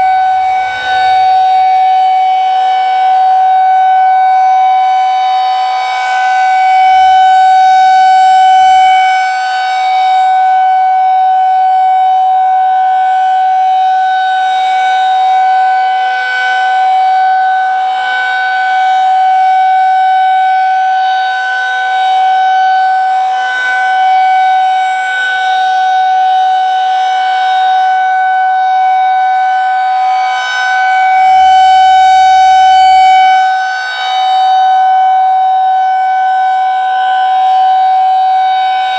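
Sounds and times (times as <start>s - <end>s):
rotating siren steady tone: 0.0s - 38.9s.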